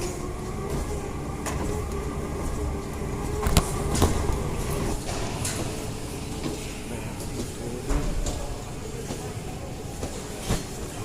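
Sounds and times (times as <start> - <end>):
stair stepper machine rumble: 0.0 - 10.8.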